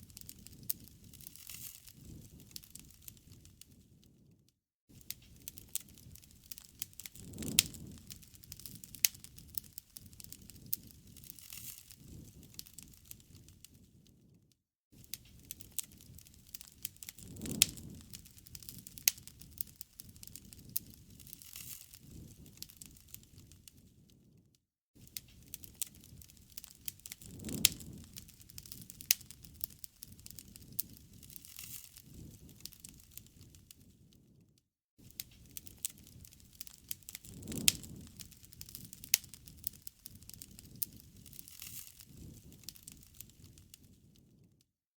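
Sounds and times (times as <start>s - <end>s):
campfire crackling and popping: 0.0s - 4.0s, 4.9s - 14.3s, 15.0s - 24.3s, 25.0s - 34.3s, 35.0s - 44.4s.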